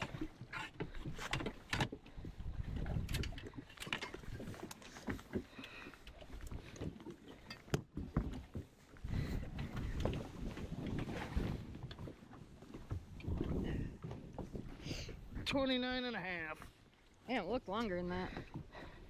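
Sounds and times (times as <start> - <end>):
low rumble of wind and water: 0.0 - 19.0.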